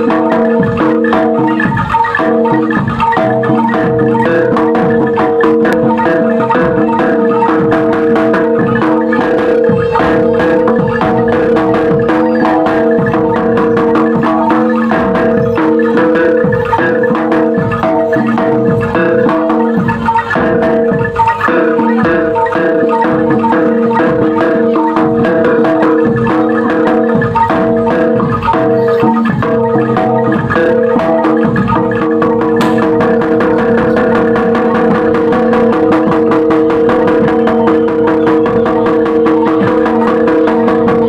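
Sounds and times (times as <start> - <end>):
drums: 0.0 - 41.0
metallophones ringing: 0.0 - 41.0.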